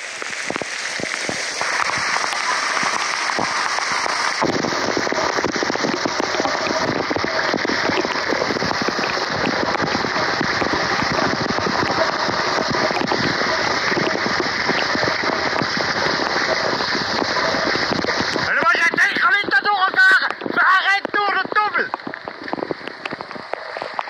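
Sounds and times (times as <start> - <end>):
heavy rain pelting ground: 0.0 - 24.0.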